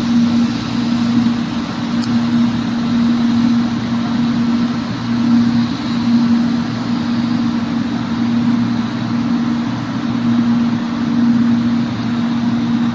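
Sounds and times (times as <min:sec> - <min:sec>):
train moving slowly humming: 0:00.0 - 0:12.9.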